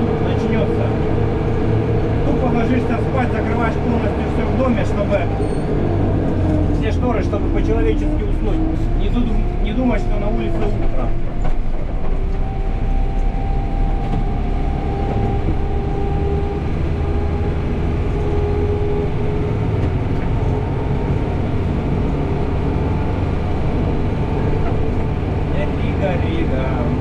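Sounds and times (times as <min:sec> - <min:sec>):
diesel engine rumble from cab: 0:00.0 - 0:27.0.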